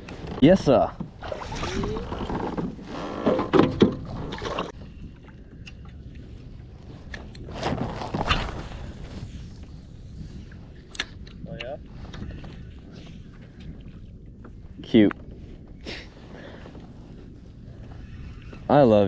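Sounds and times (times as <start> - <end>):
water around boat: 0.0 - 19.0
wind: 0.0 - 19.0.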